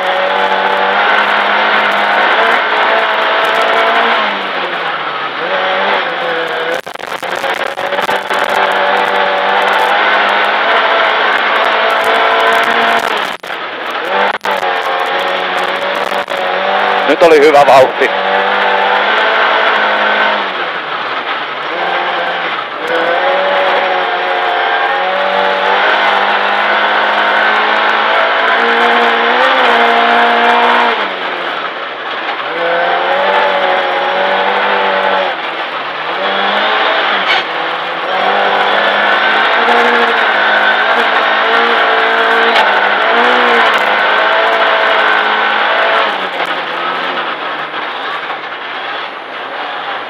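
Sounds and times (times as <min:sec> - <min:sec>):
rally car engine at high revs: 0:00.0 - 0:50.0.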